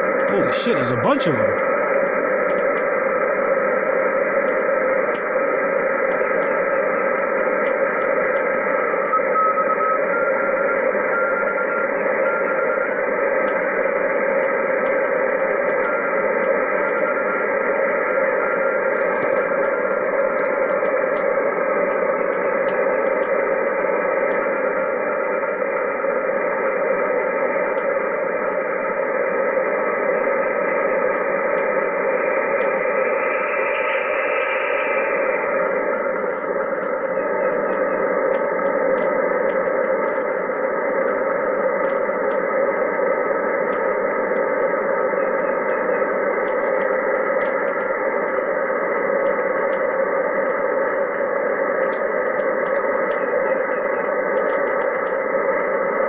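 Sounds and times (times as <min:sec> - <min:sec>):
radio band noise hiss: 0:00.0 - 0:56.0.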